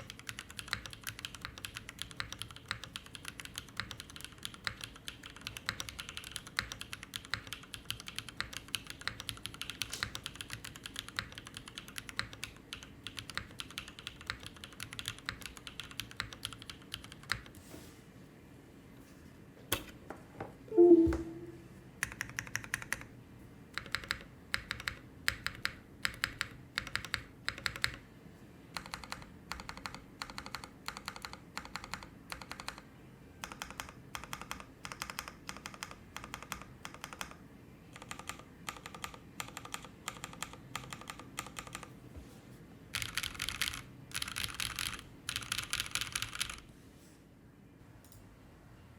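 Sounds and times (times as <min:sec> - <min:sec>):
mechanical keyboard typing: 0:00.0 - 0:17.6, 0:22.0 - 0:23.1, 0:23.7 - 0:28.0, 0:28.7 - 0:41.9, 0:42.9 - 0:46.7.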